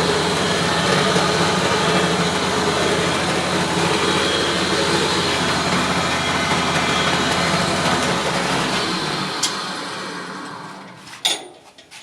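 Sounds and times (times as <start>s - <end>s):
grinding machine humming: 0.0s - 11.2s.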